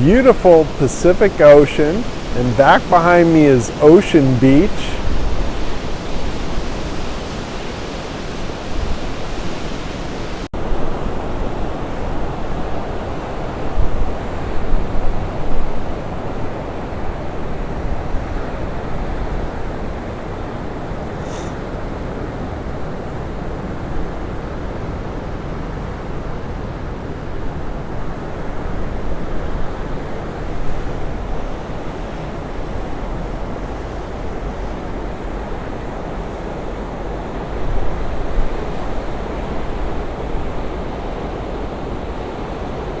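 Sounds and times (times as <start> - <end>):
surf washing onto beach: 0.0 - 43.0.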